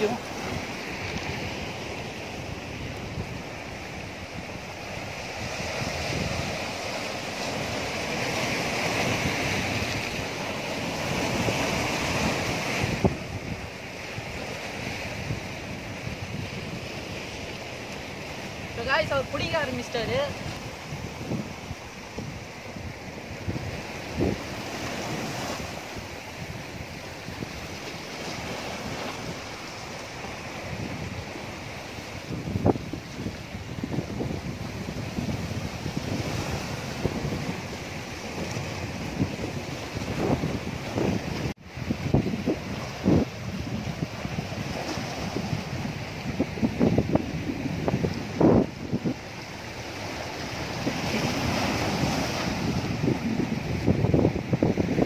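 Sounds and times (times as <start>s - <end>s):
waves breaking on rocky shore: 0.0s - 55.0s
wind buffeting microphone: 0.0s - 55.0s.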